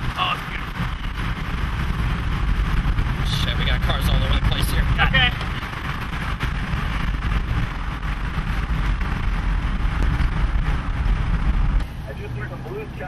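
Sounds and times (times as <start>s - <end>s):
rain: 0.0s - 13.0s
strong wind: 0.0s - 13.0s
wind buffeting microphone: 0.0s - 13.0s.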